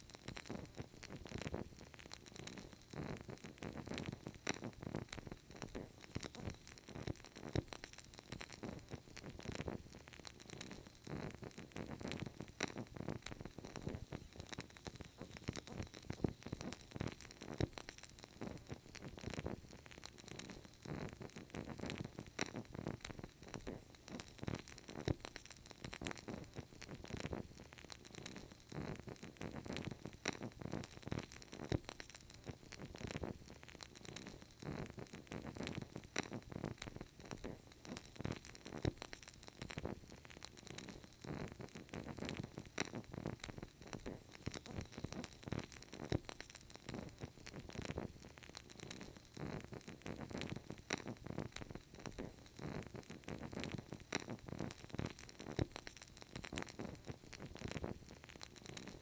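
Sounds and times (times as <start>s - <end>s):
candle crackling: 0.0s - 59.0s.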